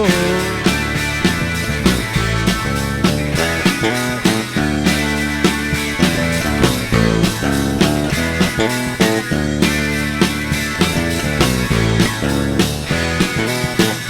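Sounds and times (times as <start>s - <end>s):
bass guitar: 0.0s - 14.0s
drum kit beat: 0.0s - 14.0s
electric guitar: 0.0s - 14.0s.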